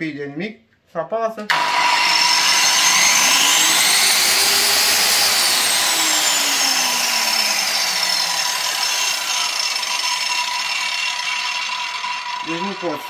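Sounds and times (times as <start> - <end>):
angle grinder whining: 1.5 - 13.0.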